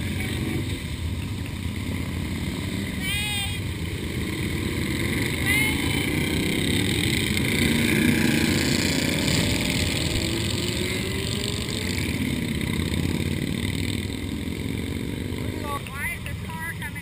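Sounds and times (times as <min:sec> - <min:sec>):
motorcycle engines idling: 0:00.0 - 0:17.0
motorcycle pulling away: 0:00.0 - 0:17.0.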